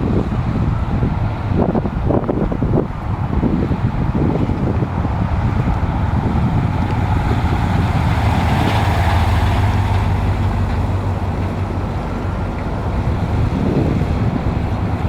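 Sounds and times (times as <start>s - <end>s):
car engine running: 1.6s - 15.0s.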